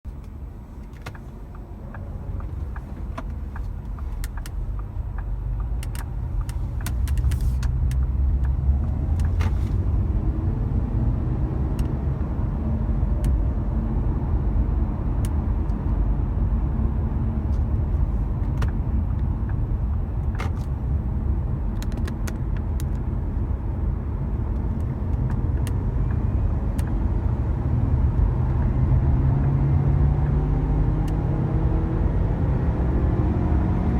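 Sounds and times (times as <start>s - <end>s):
road rumble: 0.0s - 33.9s
car engine accelerating: 0.3s - 17.4s, 18.4s - 33.9s.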